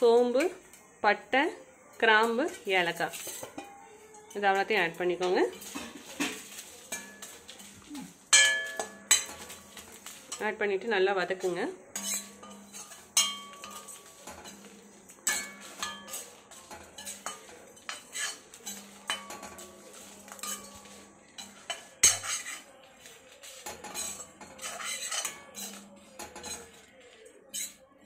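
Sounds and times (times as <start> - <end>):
metal spatula scraping metal pan: 2.2 - 27.8.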